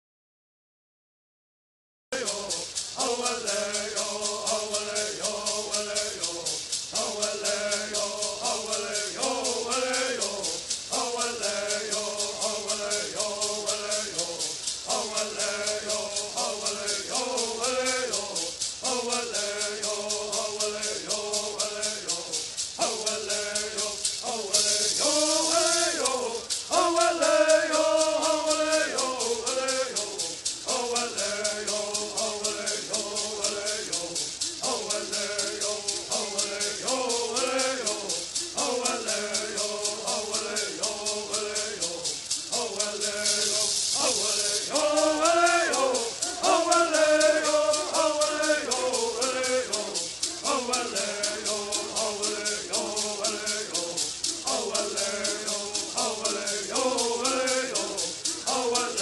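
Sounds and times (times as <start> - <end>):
gourd rattles shaking: 2.2 - 59.0
men singing in unison: 2.2 - 59.0.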